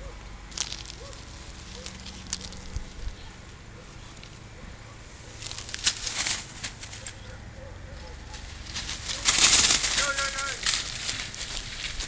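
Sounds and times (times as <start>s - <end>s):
dry grass rustling: 0.0s - 12.0s.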